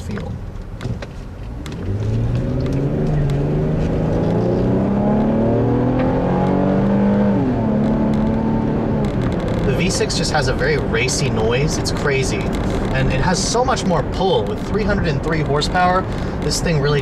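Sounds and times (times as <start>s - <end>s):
car engine accelerating: 0.1s - 17.0s.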